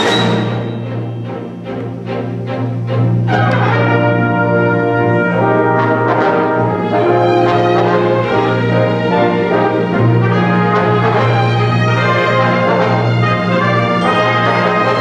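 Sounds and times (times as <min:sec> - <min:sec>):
orchestra playing sustained chords: 0:00.0 - 0:15.0.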